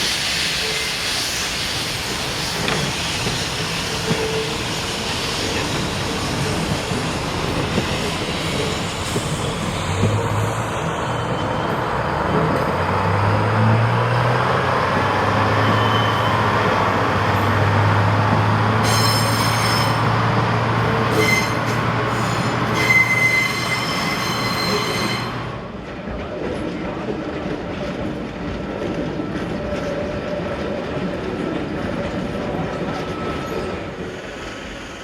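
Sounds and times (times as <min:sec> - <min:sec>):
train moving on tracks: 0:00.0 - 0:35.0
wheels squealing on rails: 0:00.0 - 0:35.0.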